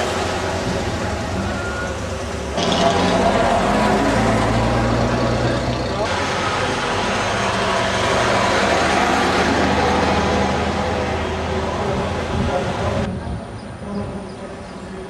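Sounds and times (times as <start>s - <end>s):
busy street noise: 0.0s - 15.0s.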